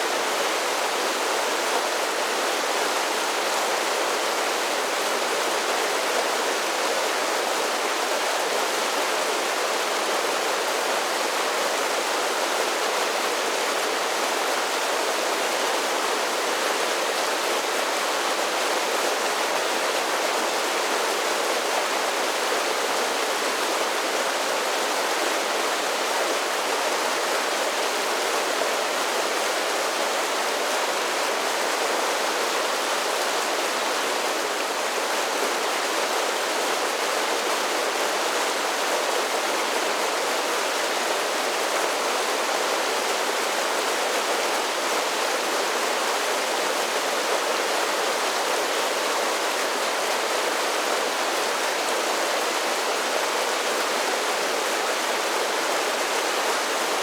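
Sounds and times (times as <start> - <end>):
creek rushing over waterfalls: 0.0 - 57.0.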